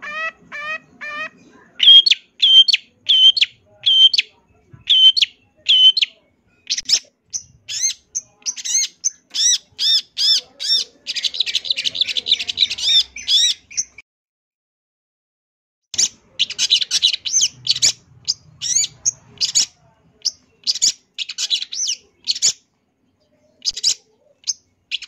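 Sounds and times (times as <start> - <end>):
bird chirping and trilling: 0.0 - 14.0, 16.0 - 25.0.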